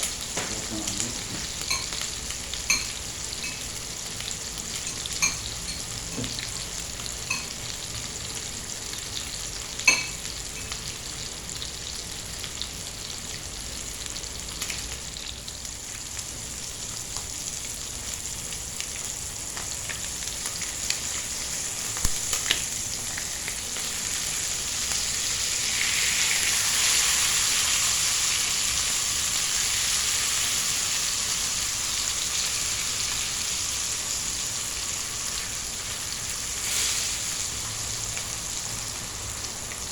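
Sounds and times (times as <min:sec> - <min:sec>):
chicken sizzling in a pan: 0:00.0 - 0:39.9.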